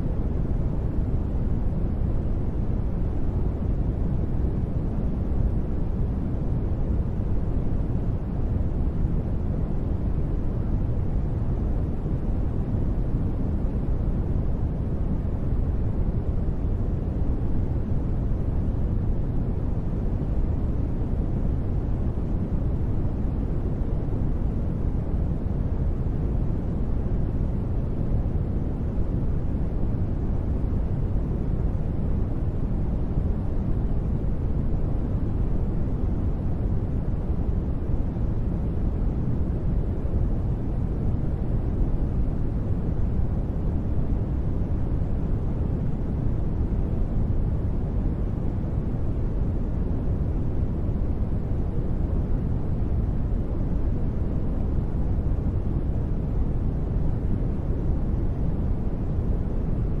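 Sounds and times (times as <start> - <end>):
deep rumbly steady noise: 0.0 - 60.0.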